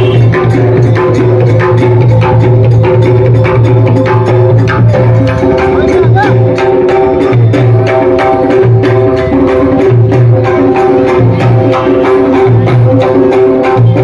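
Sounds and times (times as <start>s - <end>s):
fast drum strokes: 0.0s - 14.0s
low beat: 0.0s - 14.0s.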